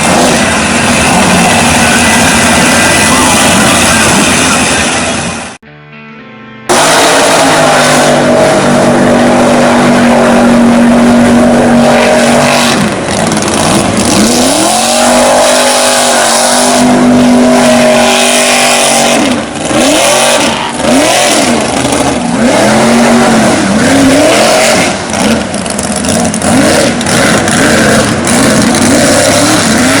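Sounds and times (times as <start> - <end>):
truck engine revving: 0.0 - 5.6, 6.7 - 30.0
tyres churning mud: 0.0 - 5.6, 6.7 - 30.0.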